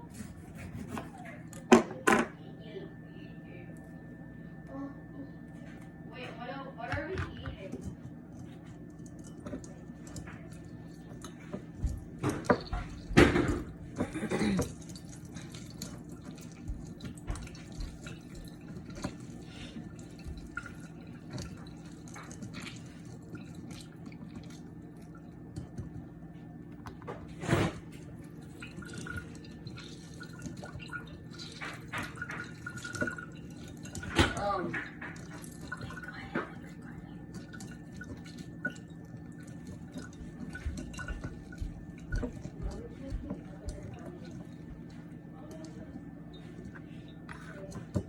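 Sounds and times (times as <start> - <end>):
steady low hum: 0.0 - 48.0
liquid dripping: 7.5 - 27.0, 27.9 - 48.0.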